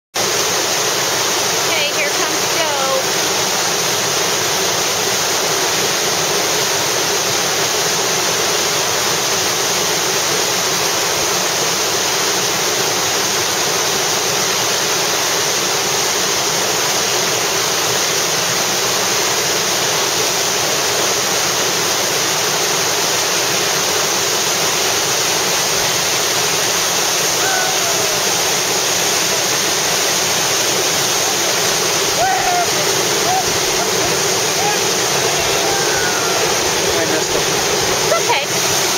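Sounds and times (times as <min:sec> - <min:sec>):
rush of churning water: 0:00.1 - 0:38.9.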